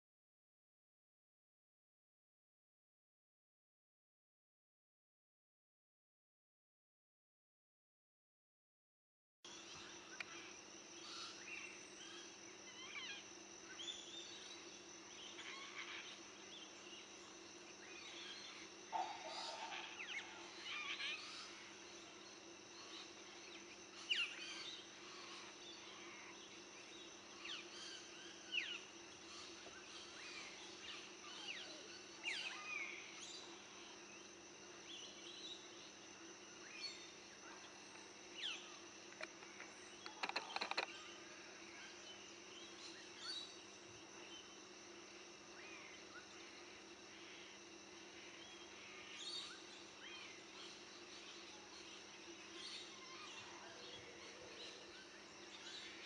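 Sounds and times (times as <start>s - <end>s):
background hum and hiss: 9.5s - 56.0s.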